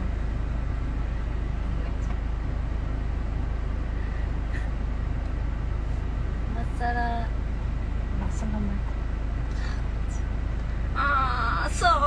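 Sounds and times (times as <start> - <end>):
van cabin engine rumble: 0.0 - 12.0.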